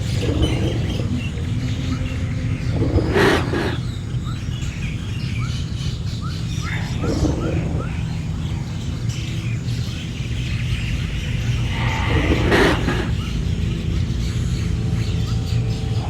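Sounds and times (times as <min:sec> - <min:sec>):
bird chirping: 0:00.0 - 0:16.0
steady low rumble: 0:00.0 - 0:16.0.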